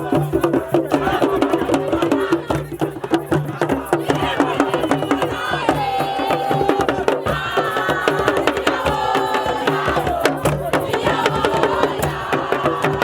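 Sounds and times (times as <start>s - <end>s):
hand drum percussion: 0.0s - 13.0s.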